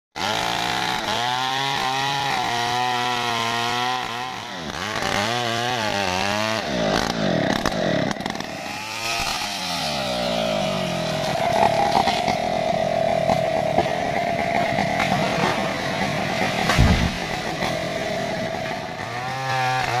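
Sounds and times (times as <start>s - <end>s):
chainsaw cutting into tree trunk: 0.2s - 20.0s.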